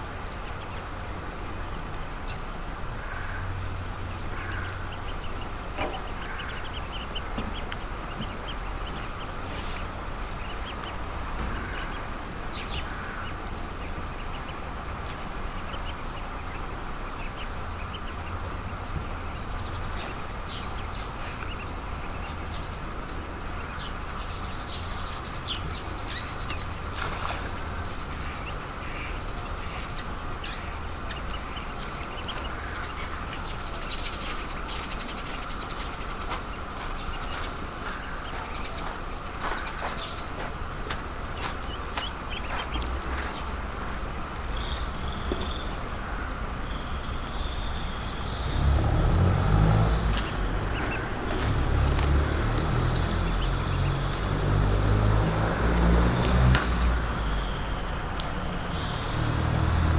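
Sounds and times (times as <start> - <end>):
ducklings peeping: 0.2 - 55.7.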